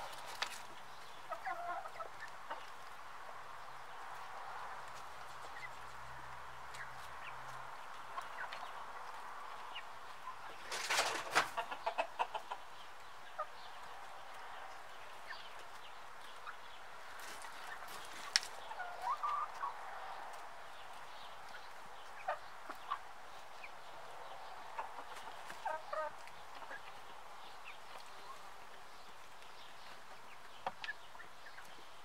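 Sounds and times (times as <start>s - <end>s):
hens clucking: 0.0s - 31.9s.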